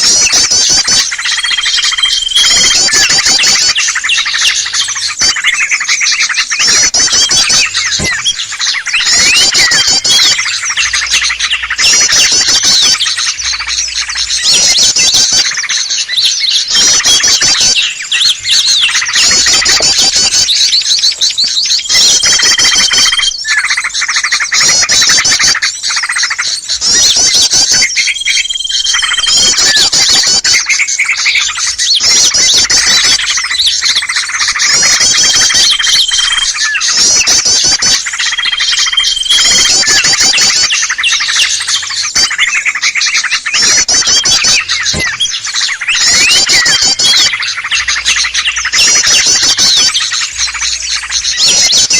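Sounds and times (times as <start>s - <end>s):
chorus of rapid high bird chirps: 0.0s - 51.9s.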